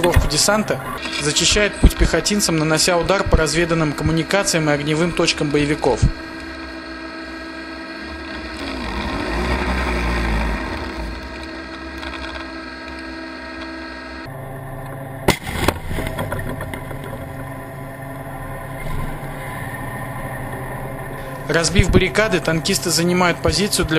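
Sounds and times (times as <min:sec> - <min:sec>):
muffled tank engine running: 0:00.0 - 0:23.9
wavering whine: 0:00.0 - 0:23.9.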